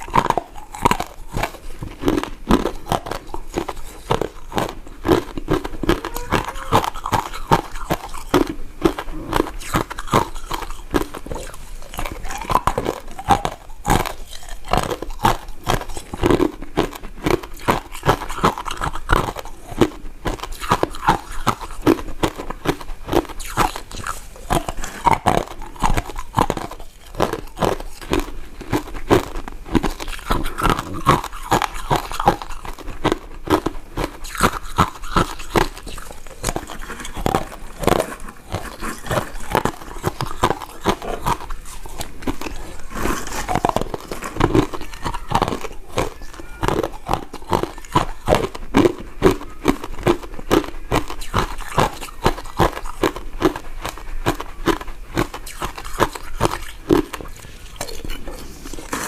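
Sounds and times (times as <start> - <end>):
crunching hard candies: 0.0 - 59.0
wet mouth clicks: 0.0 - 59.0.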